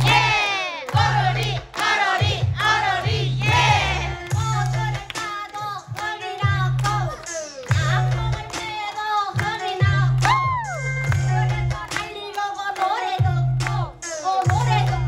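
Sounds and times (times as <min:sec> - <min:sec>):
hip-hop backing track: 0:00.0 - 0:15.0
women chanting and rapping: 0:00.0 - 0:15.0.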